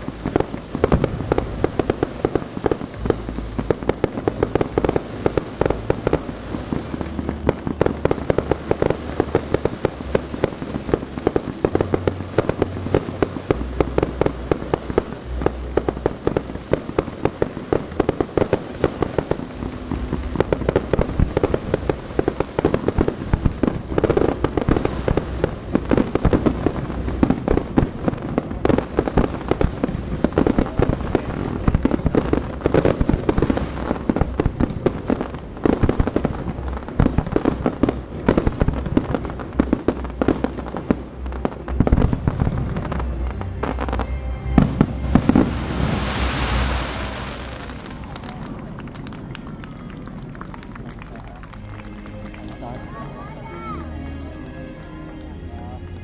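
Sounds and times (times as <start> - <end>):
fireworks bangs and pops: 0.0 - 52.7.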